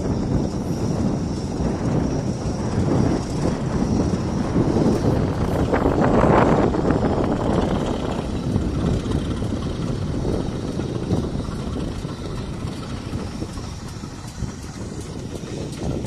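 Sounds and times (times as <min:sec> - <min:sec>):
diesel locomotive passing: 0:00.0 - 0:16.0
train wheels on rails: 0:00.0 - 0:16.0.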